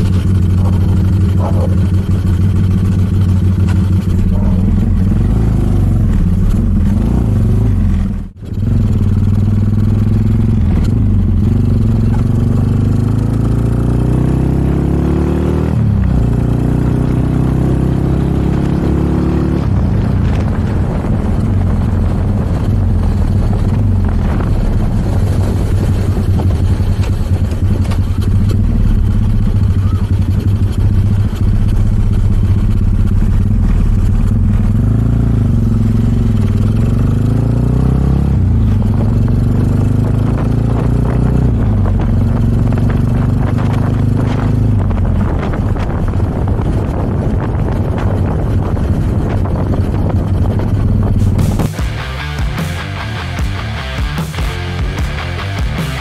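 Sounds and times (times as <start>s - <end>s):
rushing wind noise: 0.0s - 56.0s
small motorcycle engine: 0.0s - 56.0s.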